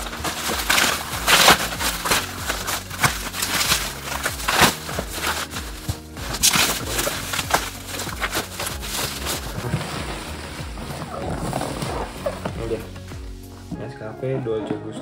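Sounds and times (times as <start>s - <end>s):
bubble wrap crinkling: 0.0s - 13.7s.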